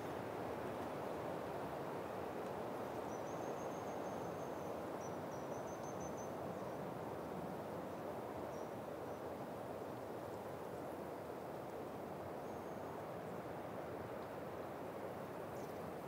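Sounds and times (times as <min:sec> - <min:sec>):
wind blowing through pines: 0:00.0 - 0:16.0.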